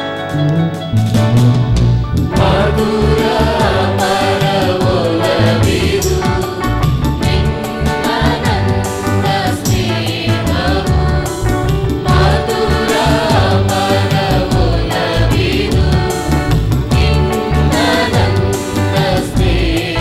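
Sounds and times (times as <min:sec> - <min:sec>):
instrumental accompaniment: 0:00.0 - 0:20.0
church choir singing a hymn: 0:02.3 - 0:20.0.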